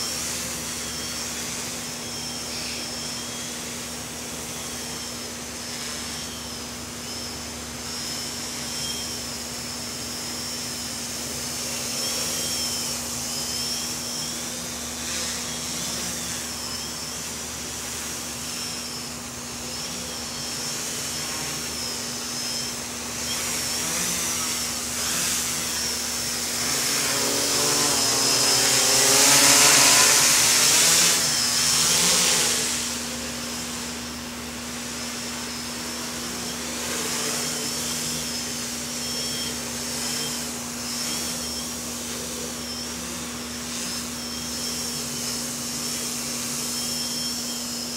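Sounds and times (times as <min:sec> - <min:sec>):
quadcopter motors buzzing: 0:00.0 - 0:47.9.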